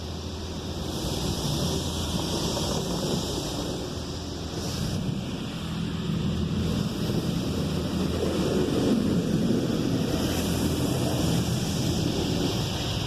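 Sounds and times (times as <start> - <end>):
high-pressure water jets spraying: 0.0 - 13.0.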